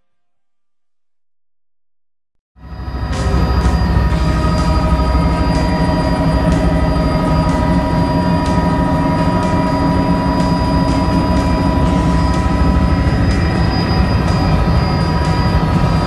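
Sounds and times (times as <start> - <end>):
helicopter engine and rotor: 2.6 - 16.0.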